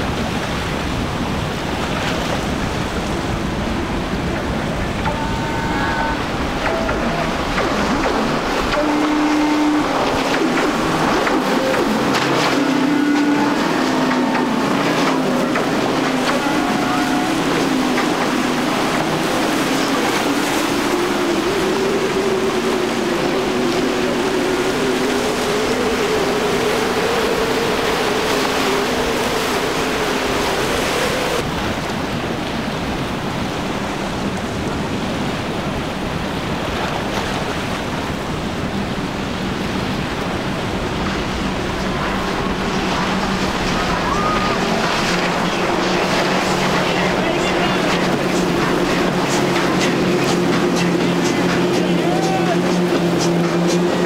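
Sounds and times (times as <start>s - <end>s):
boat outboards running by: 0.0s - 54.0s
outboard boat engine at speed: 0.0s - 54.0s
wake and wind hiss: 0.0s - 54.0s.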